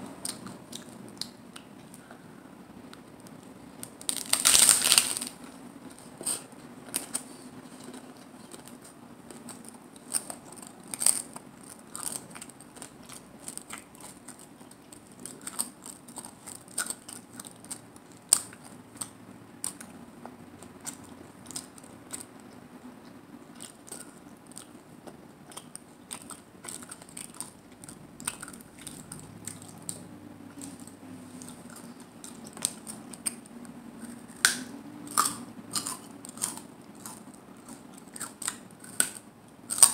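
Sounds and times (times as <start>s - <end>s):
faint low hum: 0.0s - 39.9s
crunchy taco chewing: 3.2s - 39.9s.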